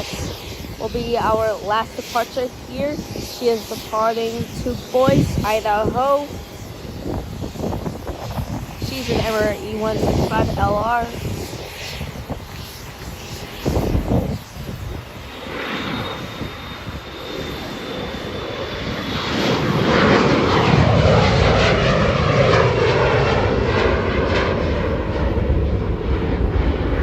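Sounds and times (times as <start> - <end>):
jet aircraft engines roaring: 0.0 - 27.0.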